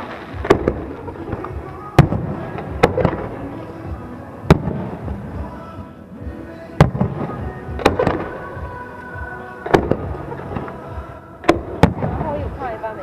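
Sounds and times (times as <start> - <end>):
fireworks bursting: 0.0 - 13.0
music playing: 0.0 - 13.0.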